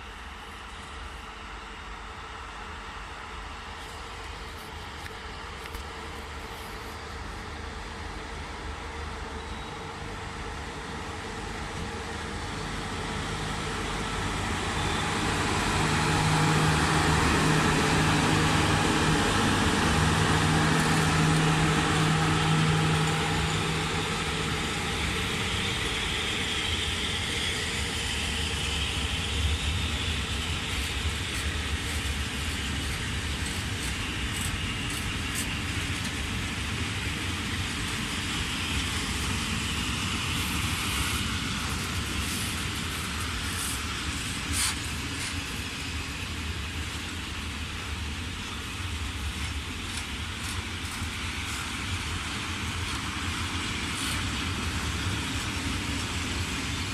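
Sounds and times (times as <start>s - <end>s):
train going by: 0.0s - 56.9s.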